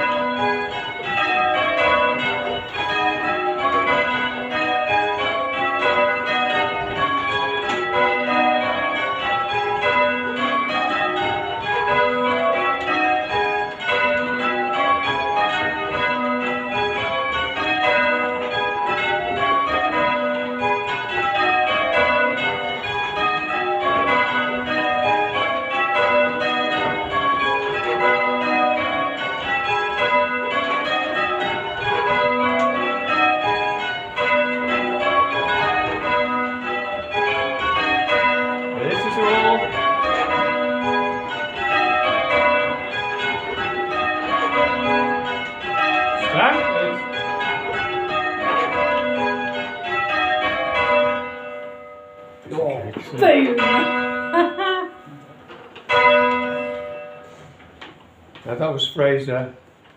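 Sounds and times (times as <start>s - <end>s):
church bells ringing: 0.0s - 59.5s.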